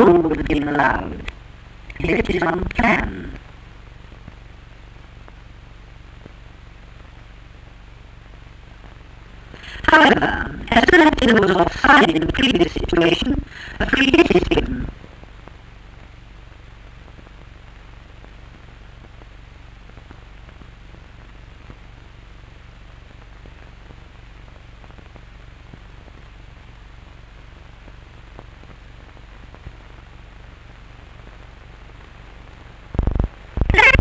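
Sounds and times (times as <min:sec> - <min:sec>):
faint crackles: 0:00.0 - 0:34.0
film soundtrack hiss: 0:00.0 - 0:34.0
low hum: 0:00.0 - 0:34.0.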